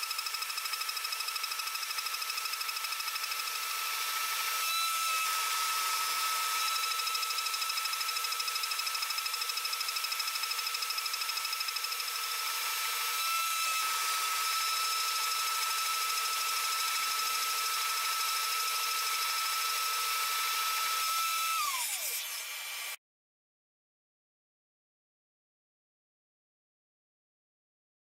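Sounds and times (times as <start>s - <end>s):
cnc spindle milling whine: 0.0s - 22.9s.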